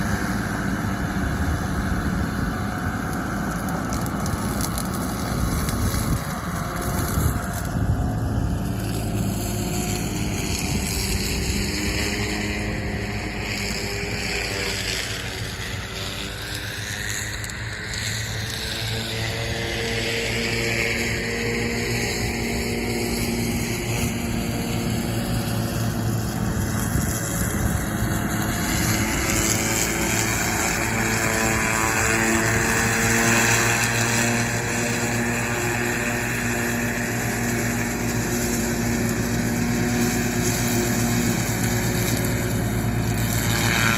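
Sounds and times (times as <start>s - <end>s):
diesel engine running: 0.0s - 43.9s
flail mower drone: 0.0s - 43.9s.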